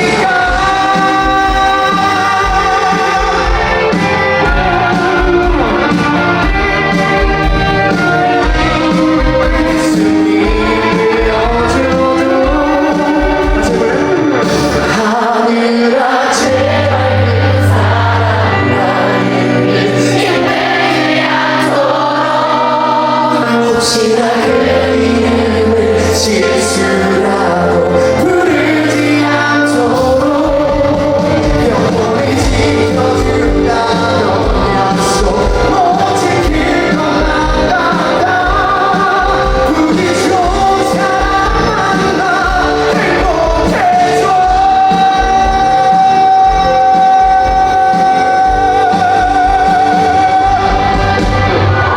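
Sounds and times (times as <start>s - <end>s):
man singing lead vocal: 0.0s - 51.9s
rock band playing: 0.0s - 51.9s.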